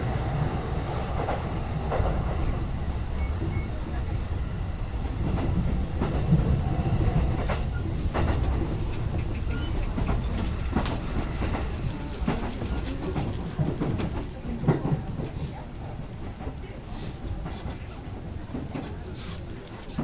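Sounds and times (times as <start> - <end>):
train rumble from inside: 0.0 - 20.0.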